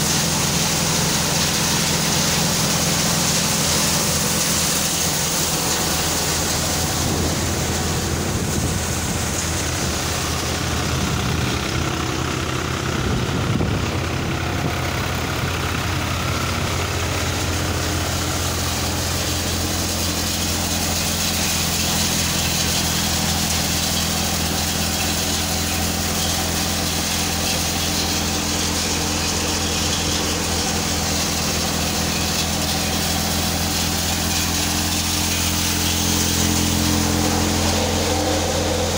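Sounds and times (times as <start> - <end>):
threshing drum hiss: 0.0 - 12.9, 14.3 - 38.9
tractor engine drone: 0.0 - 38.9.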